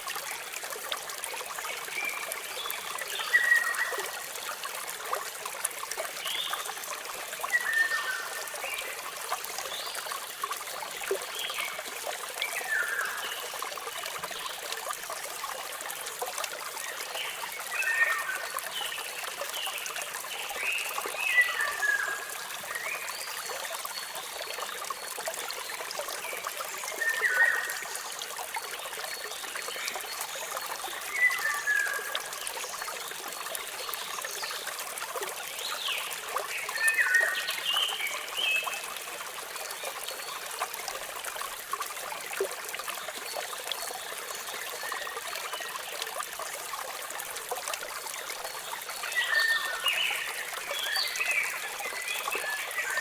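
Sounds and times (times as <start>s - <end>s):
small waterfall trickling: 0.0s - 53.0s.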